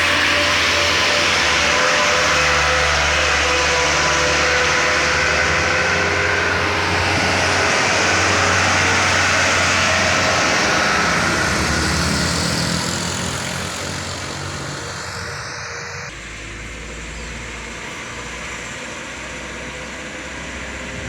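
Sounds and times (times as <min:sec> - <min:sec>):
diesel truck engine labouring: 0:00.0 - 0:21.0.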